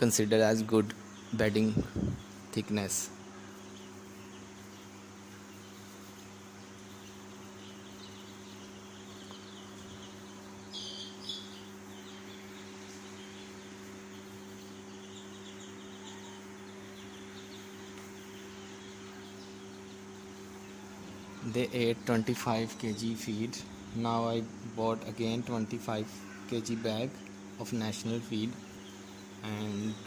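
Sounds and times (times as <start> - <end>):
chicks peeping: 0.0 - 30.0
steady low hum: 0.0 - 30.0.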